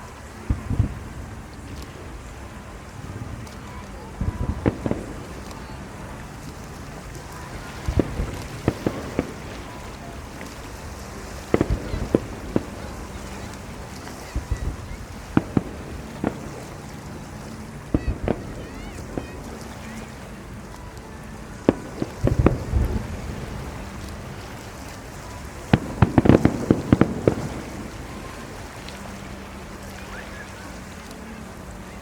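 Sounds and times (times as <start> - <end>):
background rumble: 0.0 - 32.0
distant fireworks bangs: 0.0 - 32.0.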